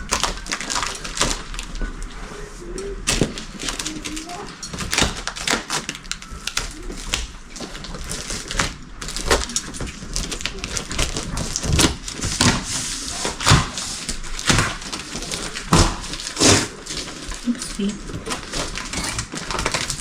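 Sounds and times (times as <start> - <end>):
cardboard rustling and scraping: 0.0 - 20.0
scissors cutting cardboard box: 3.1 - 20.0.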